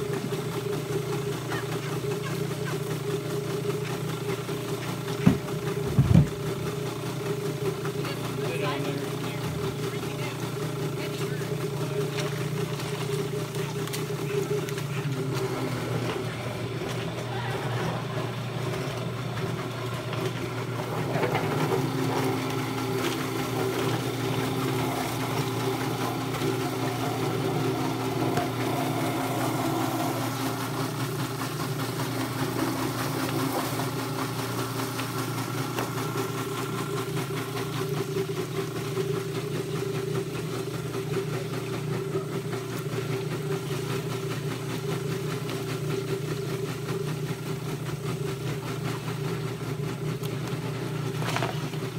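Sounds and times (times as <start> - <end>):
machinery humming: 0.0 - 51.9.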